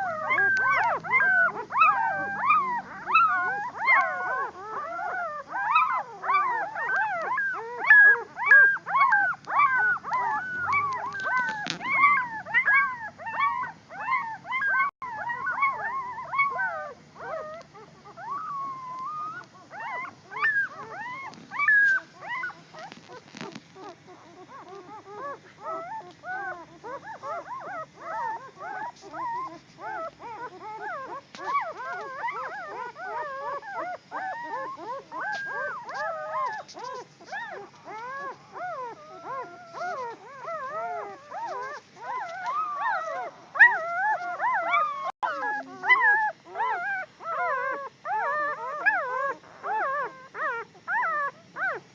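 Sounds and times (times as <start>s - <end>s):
puppies whining and yelping: 0.0s - 51.9s.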